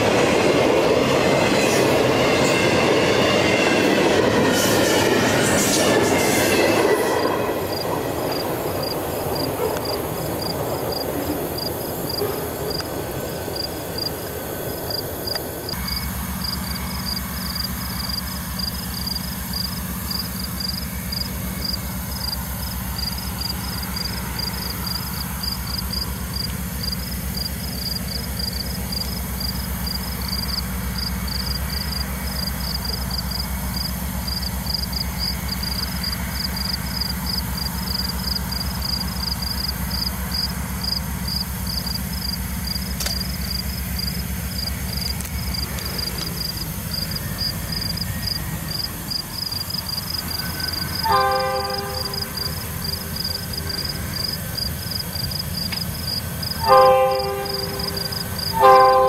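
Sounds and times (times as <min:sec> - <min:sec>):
crickets chirping: 0:00.0 - 0:59.0
diesel locomotive drone: 0:00.0 - 0:59.0
freight train rumbling past: 0:00.0 - 0:59.0.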